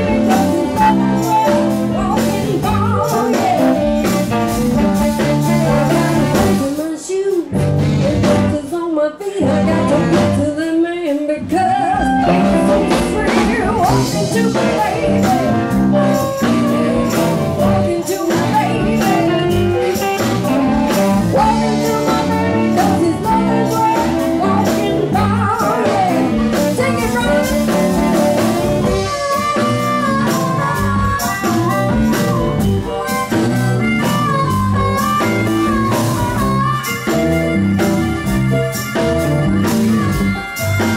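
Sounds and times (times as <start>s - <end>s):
blues band playing: 0.0s - 40.9s
woman singing: 0.0s - 40.9s.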